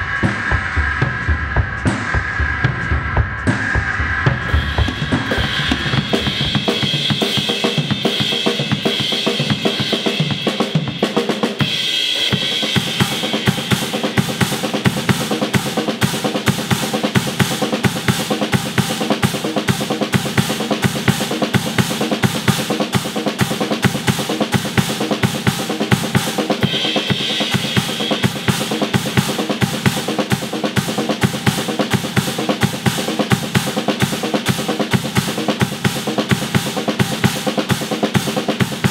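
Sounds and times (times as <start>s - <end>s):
drum kit groove: 0.0s - 38.9s.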